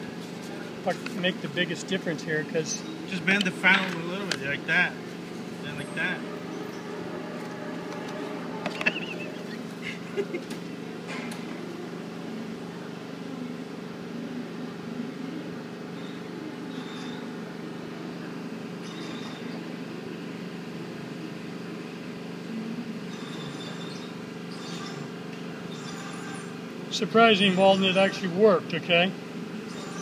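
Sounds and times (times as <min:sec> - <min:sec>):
workshop background hum: 0:00.0 - 0:30.0.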